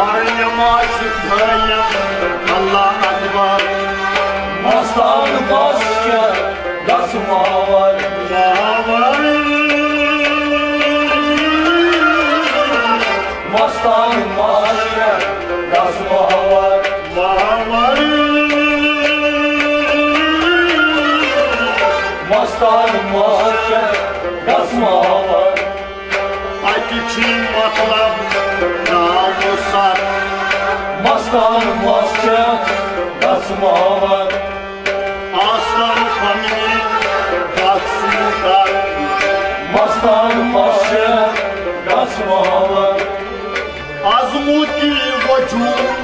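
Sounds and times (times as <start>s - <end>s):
bowed sarangi melody: 0.0s - 46.0s
drumming on a clay pot: 0.0s - 46.0s
harmonium: 0.0s - 46.0s
plucked rabab: 0.0s - 46.0s.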